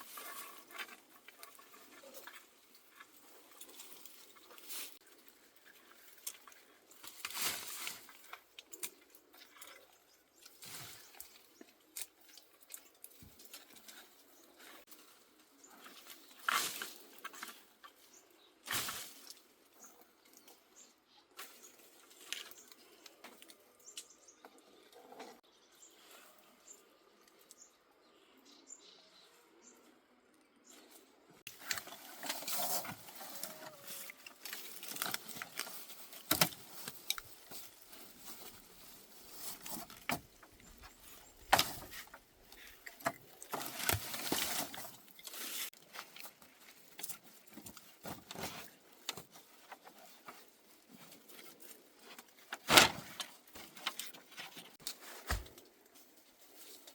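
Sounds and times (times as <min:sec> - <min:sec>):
rustling and scraping: 0:00.0 - 0:24.0, 0:30.6 - 0:56.9.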